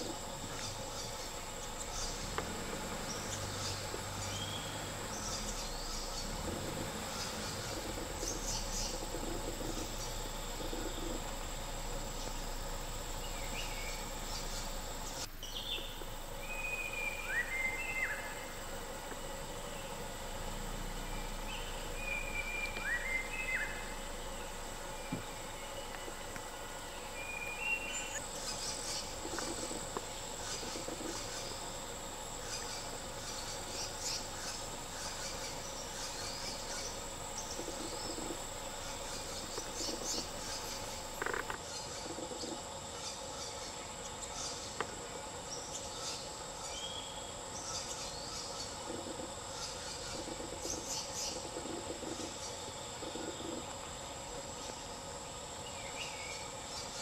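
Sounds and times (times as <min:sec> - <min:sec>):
insects droning high-pitched: 0:00.0 - 0:57.0.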